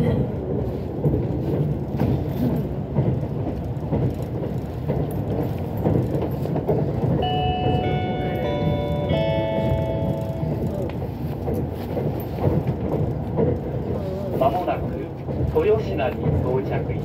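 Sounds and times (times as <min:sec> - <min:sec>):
rail-joint clacks: 0:00.0 - 0:17.0
train interior rumble: 0:00.0 - 0:17.0.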